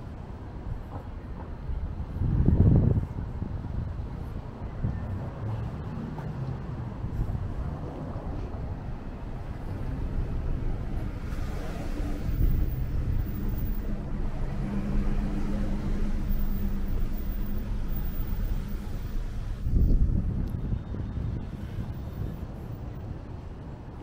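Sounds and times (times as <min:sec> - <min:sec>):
cars on busy street: 0:00.0 - 0:24.0
steady engine hum: 0:00.0 - 0:24.0.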